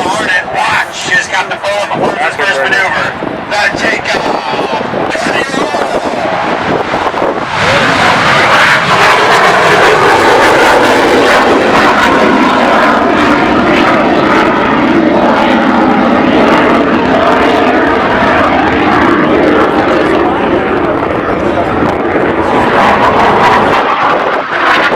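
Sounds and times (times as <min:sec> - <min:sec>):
fighter jet engines roaring: 0:00.0 - 0:24.9.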